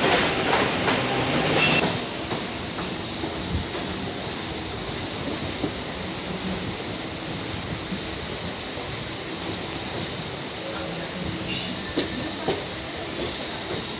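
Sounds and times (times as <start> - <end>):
electric train rumbling: 0.0 - 13.9.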